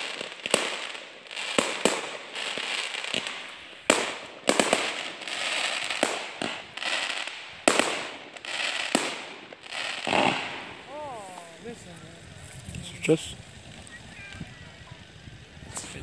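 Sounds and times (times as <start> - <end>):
firework bangs: 0.0 - 16.0
firework crackling and hissing: 0.0 - 16.0.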